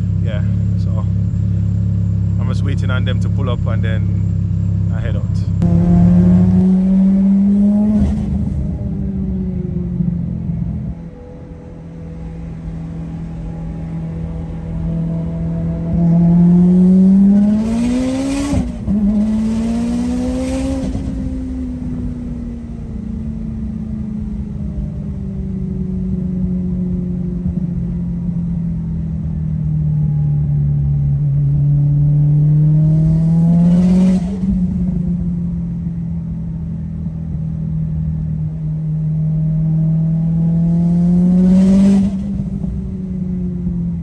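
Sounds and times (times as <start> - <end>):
car engine accelerating and shifting gear: 0.0 - 44.0.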